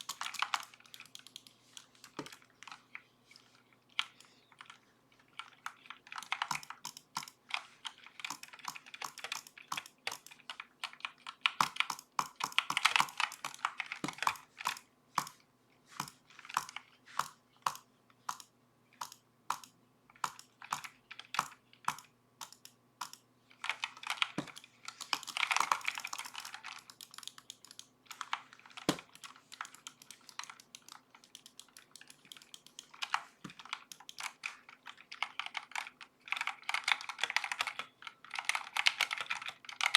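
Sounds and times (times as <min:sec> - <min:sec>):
mechanical keyboard typing: 0:00.0 - 0:03.0, 0:04.0 - 0:15.4, 0:16.0 - 0:39.9.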